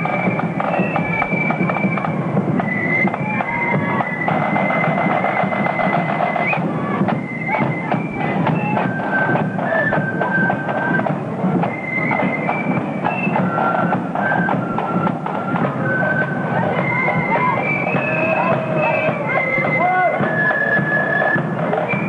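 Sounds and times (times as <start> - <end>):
flute band melody: 0.0 - 22.0
side drums beating: 0.0 - 22.0.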